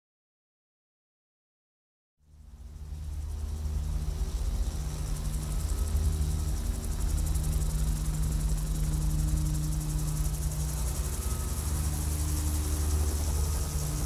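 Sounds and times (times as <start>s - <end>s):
engine drone with high whine: 2.3s - 14.0s.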